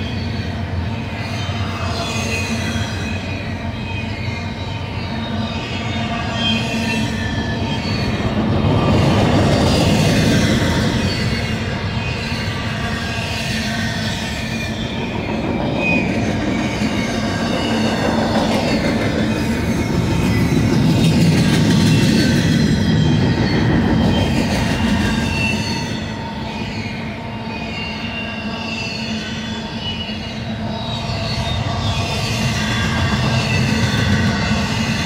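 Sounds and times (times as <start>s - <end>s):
high wheel squeals: 0.0s - 35.0s
steel wheels rumbling on rails: 0.0s - 35.0s.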